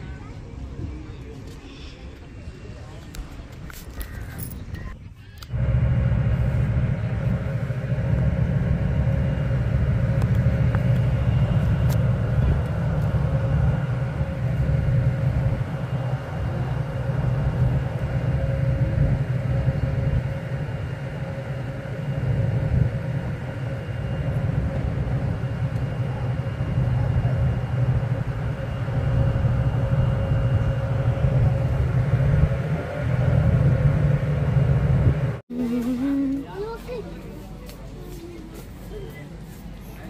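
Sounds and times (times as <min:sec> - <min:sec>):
ferry engine droning: 0:00.0 - 0:40.0
higher hum: 0:05.5 - 0:37.6.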